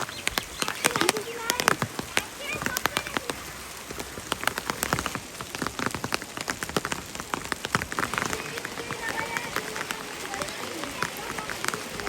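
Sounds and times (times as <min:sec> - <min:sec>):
rain falling: 0:00.0 - 0:12.0
raindrops tapping close by: 0:00.0 - 0:12.0.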